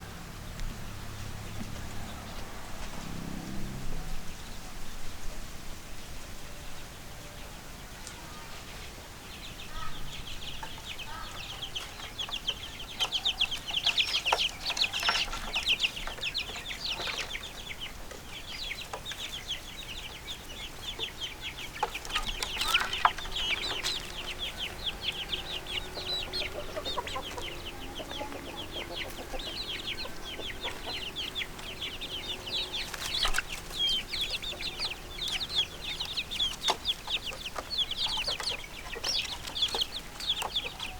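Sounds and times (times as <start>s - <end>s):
chicks peeping: 0.0s - 5.3s, 6.4s - 40.9s.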